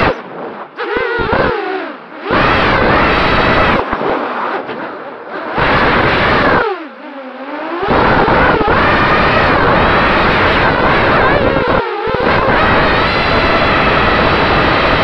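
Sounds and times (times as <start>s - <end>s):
quadcopter propellers whining: 0.0s - 15.0s.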